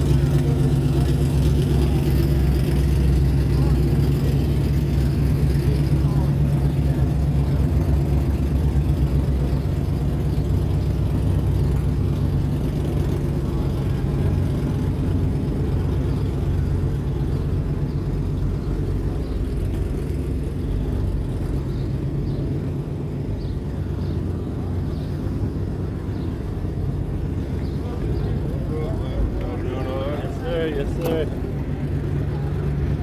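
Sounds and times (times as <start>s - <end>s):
car engine pulsing exhaust: 0.0s - 33.0s.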